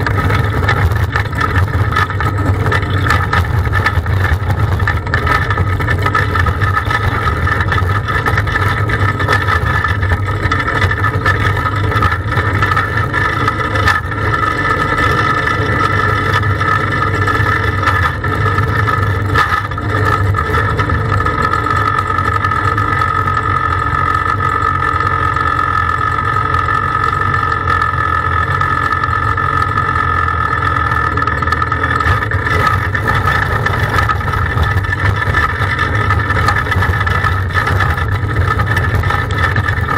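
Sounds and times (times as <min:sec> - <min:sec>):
kart engines idling: 0:00.0 - 0:39.9.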